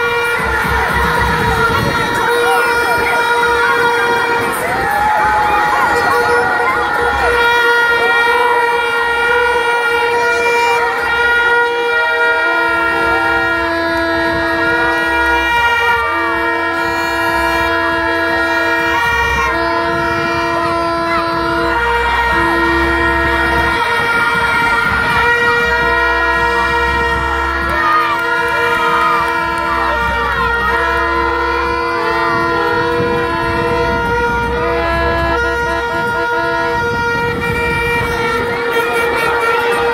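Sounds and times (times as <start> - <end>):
children shouting and cheering: 0.0 - 39.9
horns holding long notes: 0.0 - 39.9.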